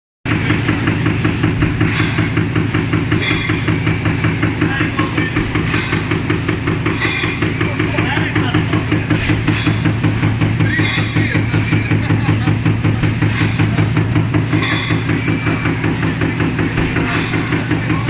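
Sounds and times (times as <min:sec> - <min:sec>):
motor hum: 0:00.3 - 0:18.0
punching machine clatter: 0:00.3 - 0:18.0.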